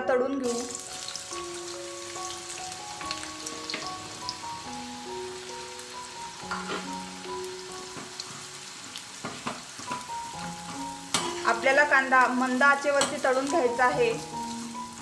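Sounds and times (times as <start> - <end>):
soft background music: 0.0 - 15.0
onions sizzling in oil: 0.4 - 15.0.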